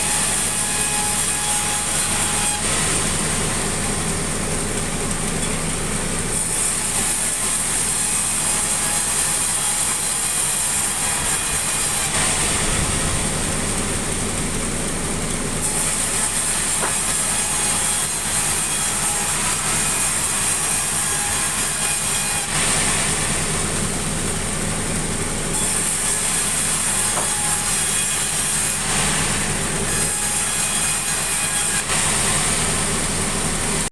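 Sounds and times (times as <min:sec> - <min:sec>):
sawmill machinery running: 0:00.0 - 0:33.9.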